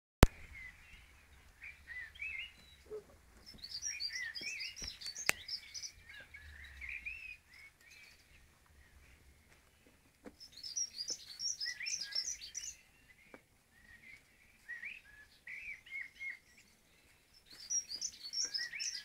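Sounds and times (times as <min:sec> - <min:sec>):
songbirds chirping and singing: 0:00.2 - 0:19.0.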